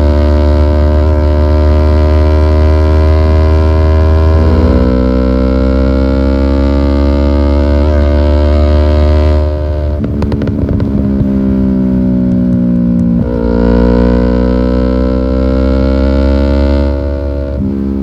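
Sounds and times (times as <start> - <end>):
motorcycle engine at steady revs: 0.0 - 18.0.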